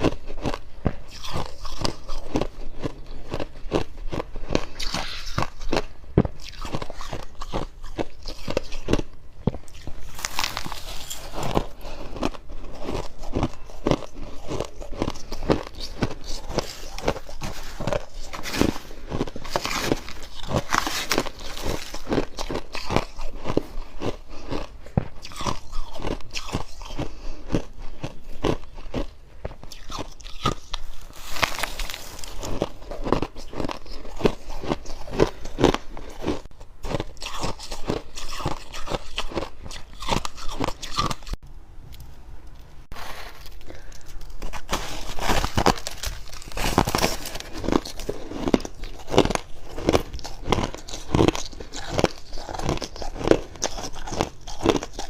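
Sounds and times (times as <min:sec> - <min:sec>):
chewing crunchy frost: 0:00.0 - 0:41.4, 0:42.9 - 0:55.0.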